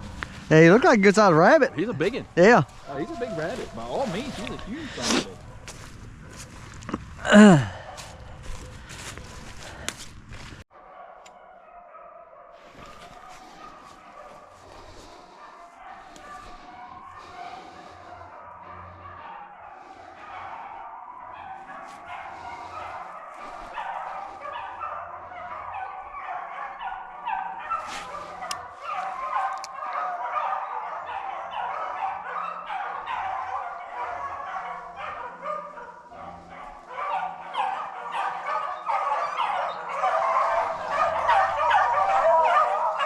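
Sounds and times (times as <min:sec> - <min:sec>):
dogs baying and yelping: 0:00.0 - 0:06.8, 0:10.8 - 0:43.0.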